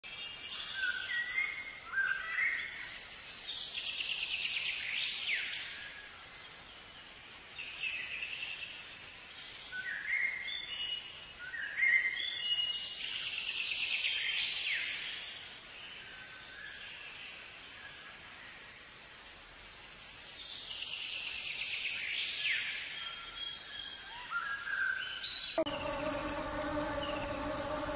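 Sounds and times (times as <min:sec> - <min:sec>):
songbirds singing: 0:00.0 - 0:27.9.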